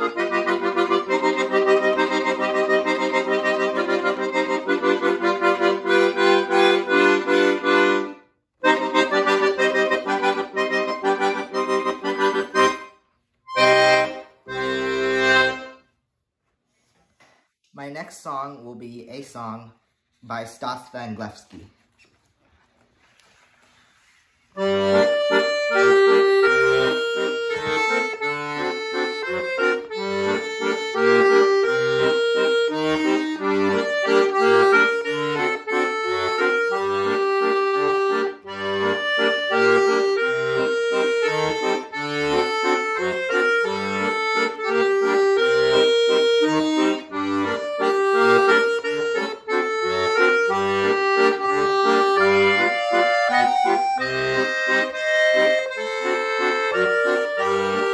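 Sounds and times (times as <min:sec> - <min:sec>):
button accordion playing: 0:00.0 - 0:16.0, 0:24.6 - 0:57.9.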